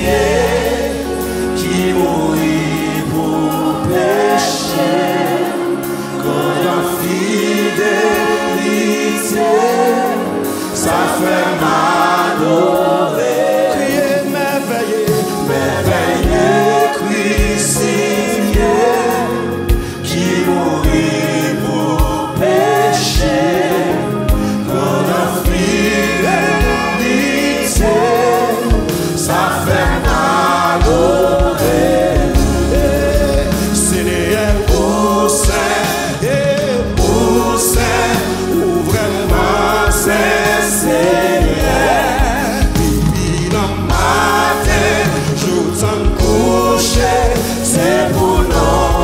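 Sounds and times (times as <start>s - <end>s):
choir singing: 0.0s - 49.0s
keyboards: 0.0s - 49.0s
man singing lead: 0.0s - 49.0s.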